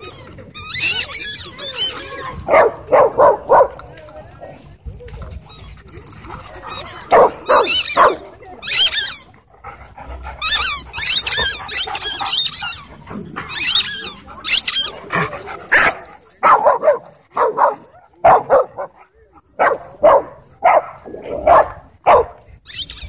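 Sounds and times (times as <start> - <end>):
dogs barking and yelping: 0.0 - 3.9, 5.2 - 23.0.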